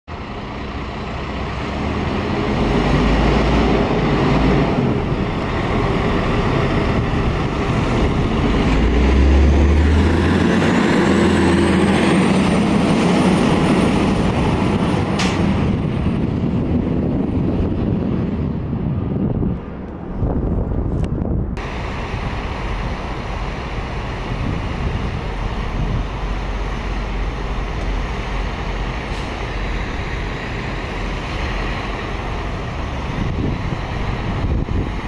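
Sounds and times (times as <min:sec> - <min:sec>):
diesel engine rumble: 0:00.1 - 0:35.0.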